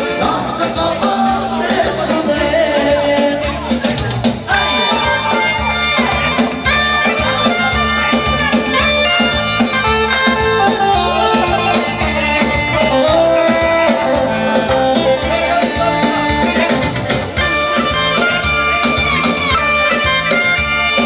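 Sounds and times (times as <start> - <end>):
electronic keyboard melody: 0.0 - 21.0
live dance band through loudspeakers: 0.0 - 21.0.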